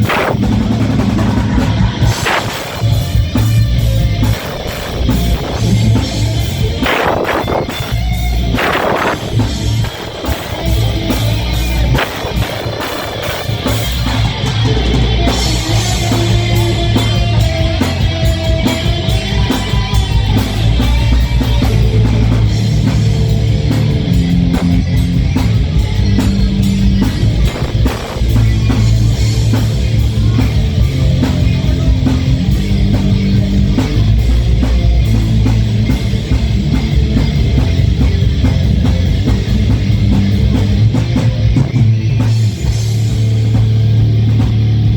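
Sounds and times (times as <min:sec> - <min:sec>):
bass guitar: 0:00.0 - 0:44.9
distorted electric guitars: 0:00.0 - 0:44.9
drum kit fast beat: 0:00.0 - 0:44.9.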